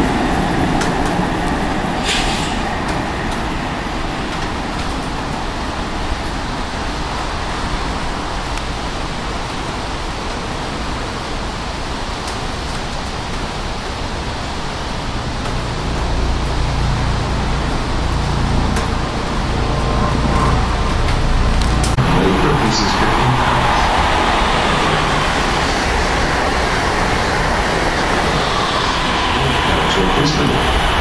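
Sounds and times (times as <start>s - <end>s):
electric train passing: 0.0s - 31.0s
rain hissing: 0.0s - 31.0s.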